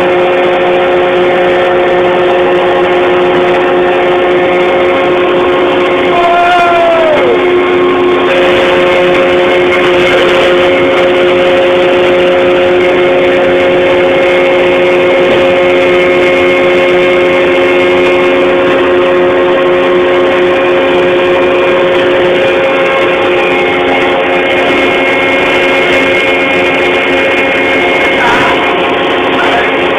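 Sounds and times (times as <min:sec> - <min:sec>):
loud machine drone: 0:00.0 - 0:29.9.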